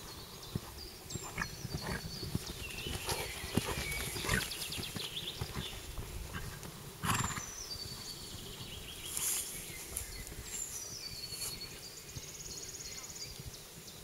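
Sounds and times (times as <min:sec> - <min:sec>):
horse hooves thudding on sand: 0:00.0 - 0:12.3
wild birds singing: 0:00.0 - 0:14.0.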